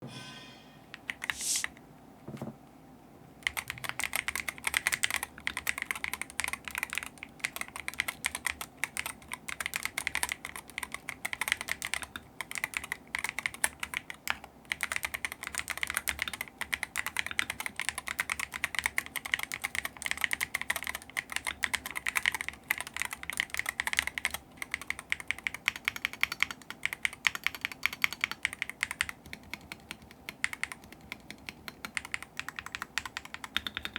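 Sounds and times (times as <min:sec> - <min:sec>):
fast keyboard typing: 0:03.4 - 0:33.9.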